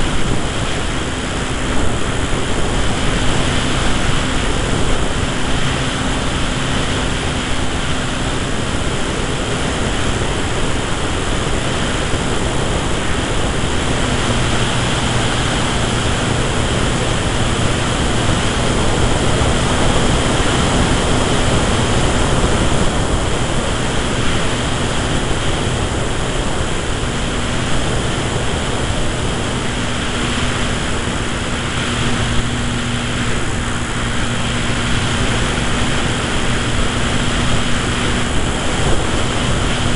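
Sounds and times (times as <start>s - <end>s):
electric motor and propeller humming: 0.0s - 39.9s
wind rushing over microphone: 0.0s - 39.9s.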